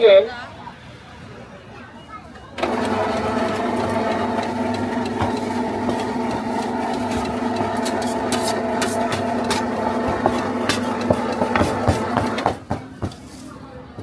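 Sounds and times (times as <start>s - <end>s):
mechanical hum: 2.4s - 14.0s.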